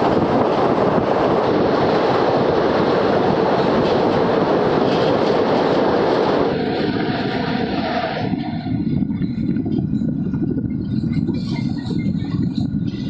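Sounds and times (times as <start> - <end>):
train wheel and rail noise: 0.0 - 13.0.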